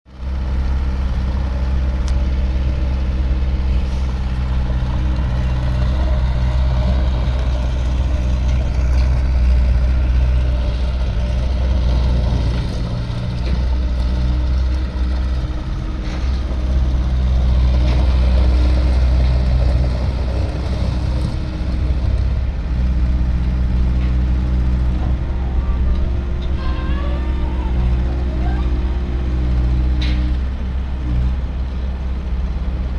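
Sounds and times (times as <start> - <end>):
loader engine droning: 0.1 - 32.9.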